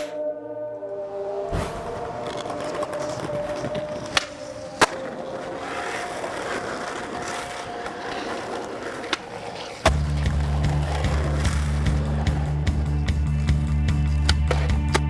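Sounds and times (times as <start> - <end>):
skateboard wheels rolling: 1.2 - 15.0.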